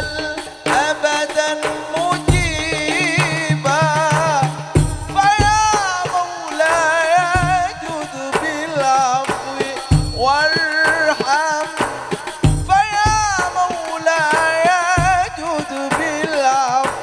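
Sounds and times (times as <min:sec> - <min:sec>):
deep hand-drum beats: 0:00.0 - 0:17.0
man singing into microphone: 0:00.0 - 0:17.0.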